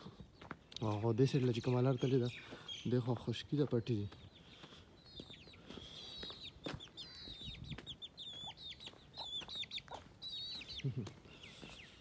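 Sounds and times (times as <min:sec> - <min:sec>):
soft footsteps on dirt: 0:00.0 - 0:12.0
chick peeping: 0:00.4 - 0:12.0.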